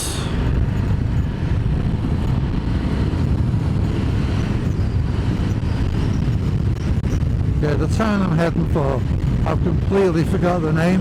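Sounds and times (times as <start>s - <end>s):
wind and road rush: 0.0s - 11.0s.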